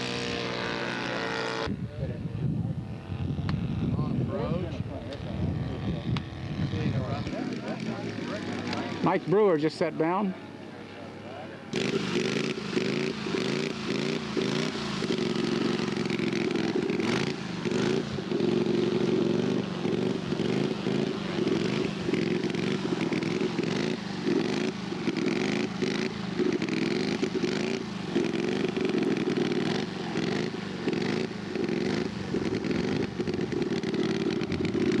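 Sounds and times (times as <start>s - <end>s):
model airplane engine running: 0.0s - 35.0s.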